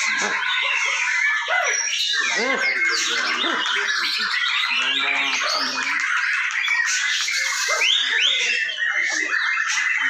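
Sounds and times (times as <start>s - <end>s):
chorus of birds singing: 0.0s - 10.0s.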